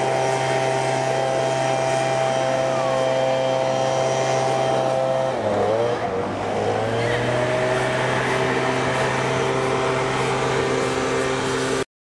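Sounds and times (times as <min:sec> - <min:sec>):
lawnmower engine droning: 0:00.0 - 0:11.9.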